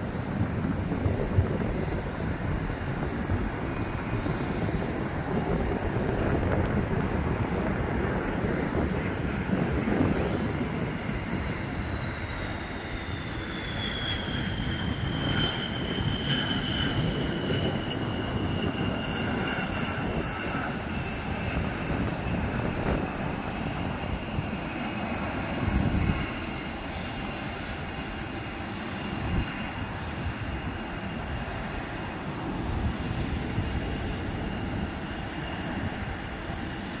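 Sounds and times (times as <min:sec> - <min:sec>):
jet engines rumbling and whining: 0:00.0 - 0:37.0.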